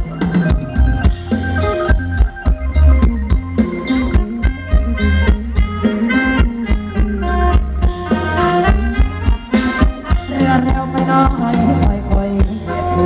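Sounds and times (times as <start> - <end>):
heavy bass drum: 0.0 - 13.0
reedy mouth organ melody: 0.0 - 13.0
steady drum beat: 0.0 - 13.0.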